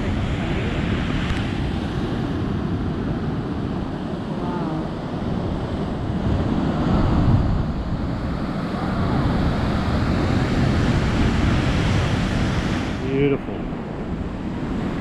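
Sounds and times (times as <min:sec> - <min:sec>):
ocean surf breaking on rocks: 0:00.0 - 0:15.0
wind buffeting microphone: 0:00.0 - 0:15.0.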